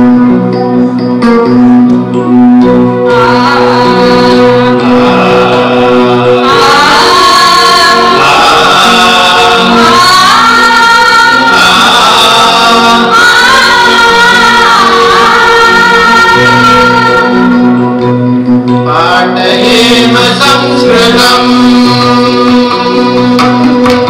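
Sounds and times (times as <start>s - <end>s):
group singing: 3.0s - 18.1s, 18.8s - 24.0s.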